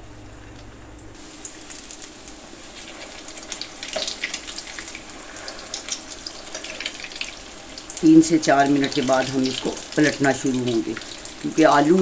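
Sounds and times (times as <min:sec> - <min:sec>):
cutlets frying with crackling: 0:00.0 - 0:12.0.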